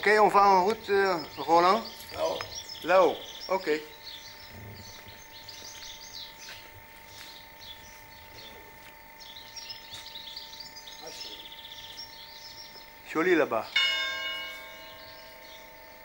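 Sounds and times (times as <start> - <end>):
songbirds chirping and twittering: 0.0 - 16.0.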